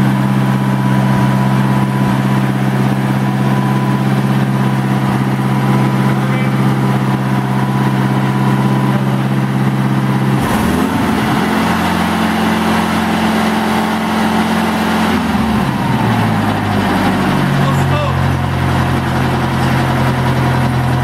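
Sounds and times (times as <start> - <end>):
concrete saw engine idling and revving: 0.0 - 21.0.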